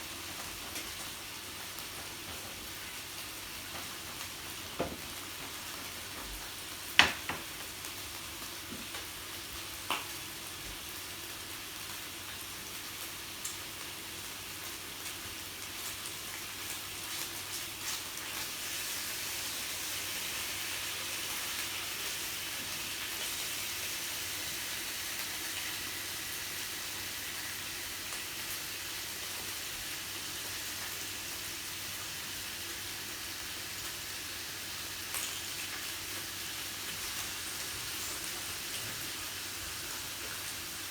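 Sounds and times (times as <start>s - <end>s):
meat sizzling on a grill: 0.0s - 40.9s.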